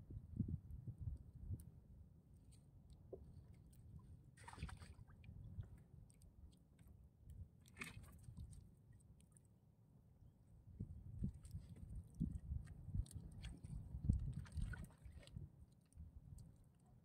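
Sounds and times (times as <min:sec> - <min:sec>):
faint wind and water rumble: 0:00.0 - 0:17.0.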